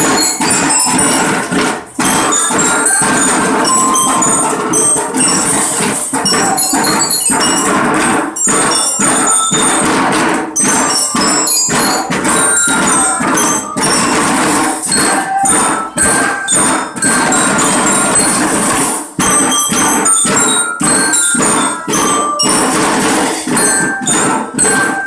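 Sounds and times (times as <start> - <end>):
glockenspiel melody: 0.0 - 25.0
snare drums beating: 0.0 - 25.0.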